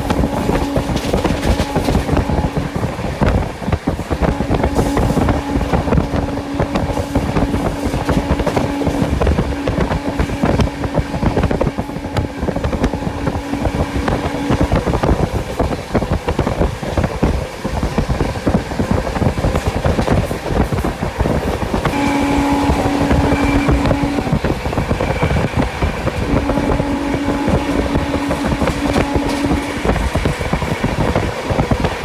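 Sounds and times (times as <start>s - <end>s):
steady humming tone: 0.0s - 32.0s
train wheels rattling on rails: 0.0s - 32.0s.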